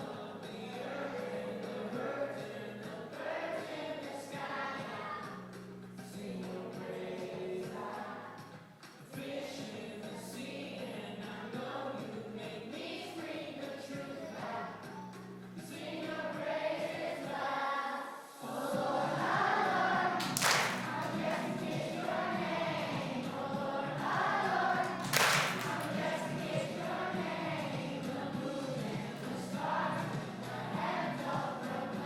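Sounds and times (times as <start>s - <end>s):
backing music: 0.0s - 17.4s, 18.4s - 32.0s
group of people singing: 0.0s - 32.0s.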